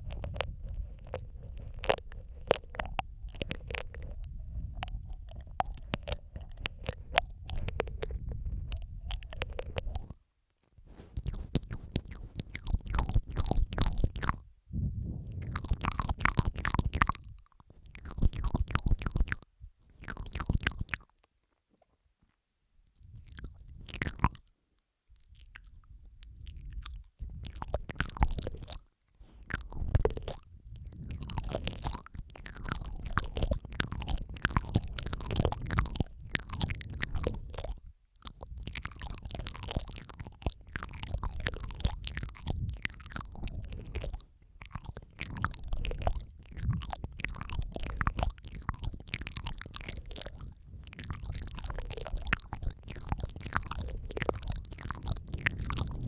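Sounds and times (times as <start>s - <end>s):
wet mouth clicks and smacks: 0.0s - 10.2s, 10.9s - 14.5s, 15.2s - 21.3s, 22.9s - 56.0s.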